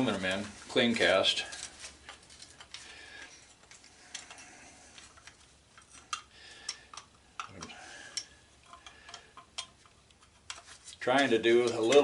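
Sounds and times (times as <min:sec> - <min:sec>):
metal parts clicking and clinking: 0:01.3 - 0:12.0.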